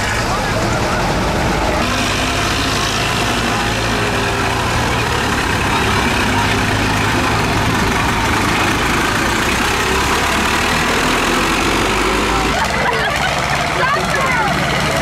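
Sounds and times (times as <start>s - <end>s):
crowd chatter: 0.0s - 15.0s
tractor diesel engines under load: 0.0s - 15.0s.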